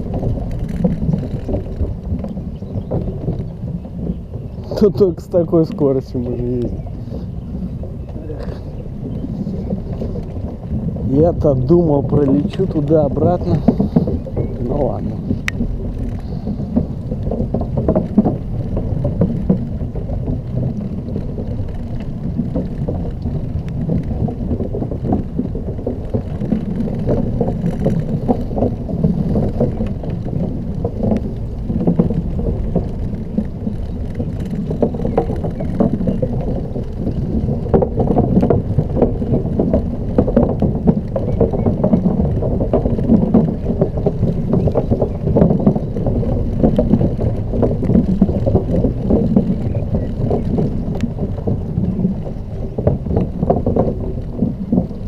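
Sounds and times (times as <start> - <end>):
electric scooter rumbling: 0.0 - 55.0
small rattles and knocks: 0.0 - 55.0
wind buffeting microphone: 0.0 - 55.0.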